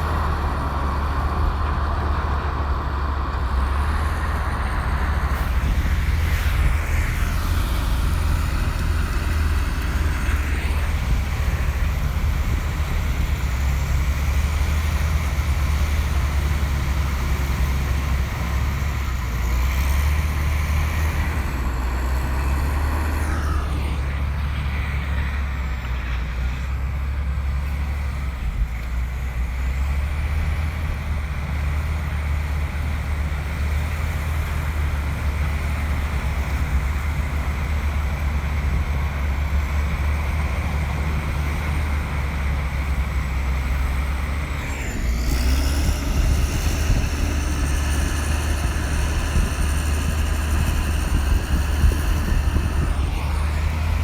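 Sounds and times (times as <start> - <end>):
diesel engine rumbling: 0.0 - 54.0.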